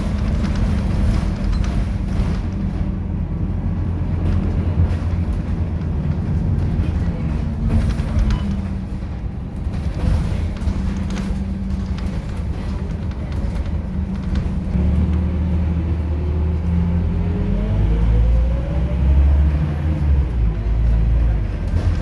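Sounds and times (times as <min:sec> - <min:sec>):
bus diesel engine pulling: 0:00.0 - 0:22.0.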